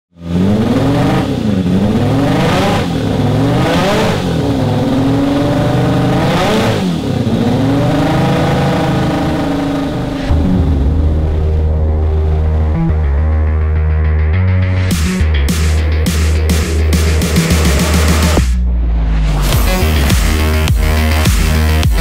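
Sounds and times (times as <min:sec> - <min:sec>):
car engine revving: 0:00.1 - 0:22.0.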